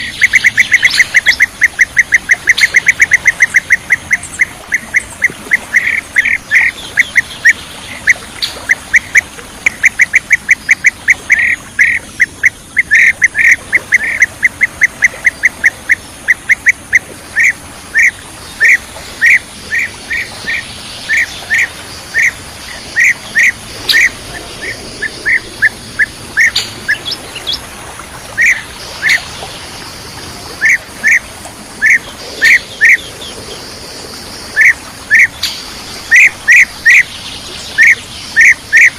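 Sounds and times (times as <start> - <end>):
bird trilled calls: 0.0 - 27.7, 28.3 - 29.6, 30.5 - 33.6, 34.5 - 38.9.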